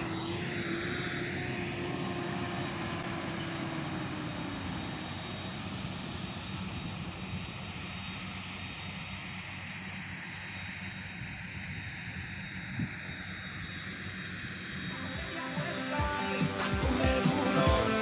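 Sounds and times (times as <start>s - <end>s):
harvester engine droning: 0.0s - 18.0s.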